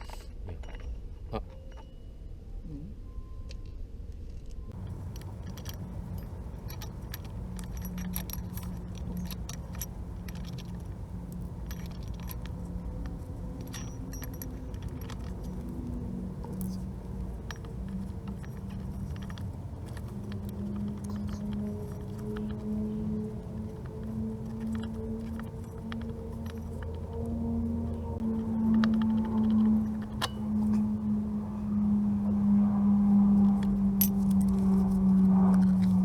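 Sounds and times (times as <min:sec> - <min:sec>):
steady low hum: 0:04.7 - 0:36.0
metallic clinking and jingling: 0:04.8 - 0:36.0.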